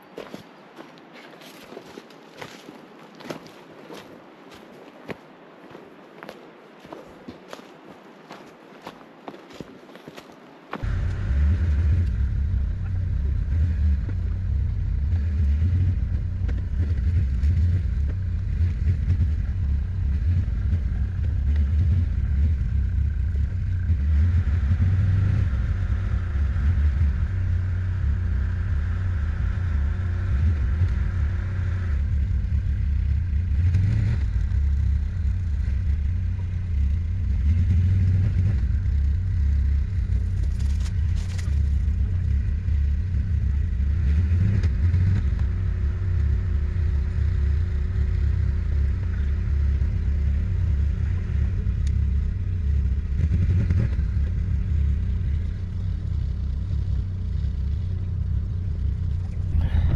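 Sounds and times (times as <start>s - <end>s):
knocks and clatters over rough ground: 0.0s - 59.9s
atv engine rumbling: 10.5s - 59.9s.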